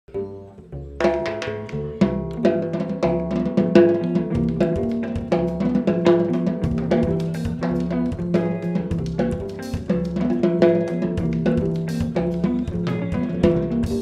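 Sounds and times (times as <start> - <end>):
bass line: 0.1 - 14.0
held chords: 0.1 - 14.0
samba-jazz band playing: 0.2 - 14.0
snare and bass drum beat: 1.1 - 14.0.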